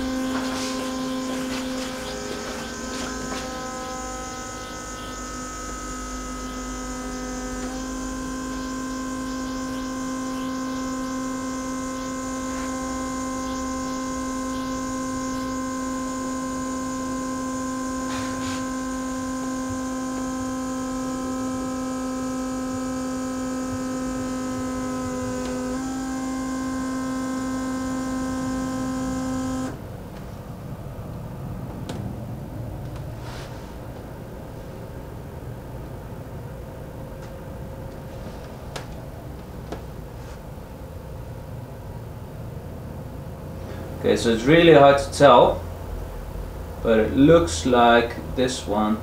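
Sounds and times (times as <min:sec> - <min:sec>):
electric fuel pump humming: 0:00.0 - 0:49.0.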